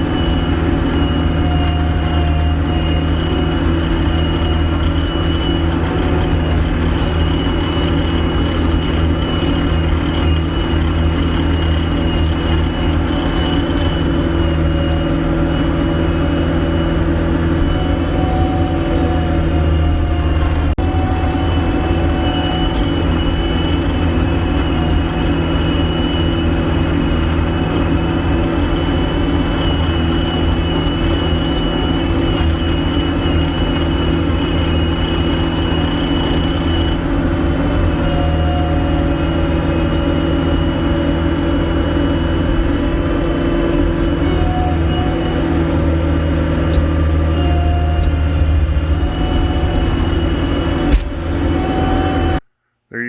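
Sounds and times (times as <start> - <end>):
diesel engine running: 0.0 - 52.4.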